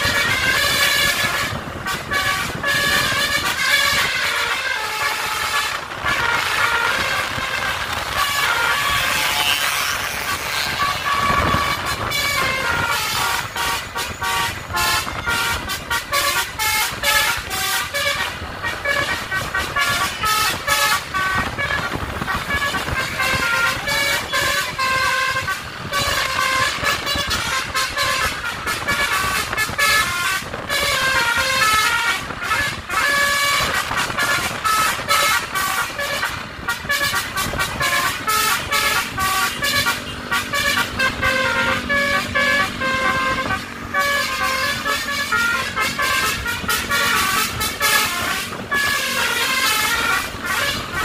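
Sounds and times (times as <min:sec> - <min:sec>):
multi-tone bus horn tune: 0:00.0 - 0:51.0
road traffic rumble: 0:00.0 - 0:51.0.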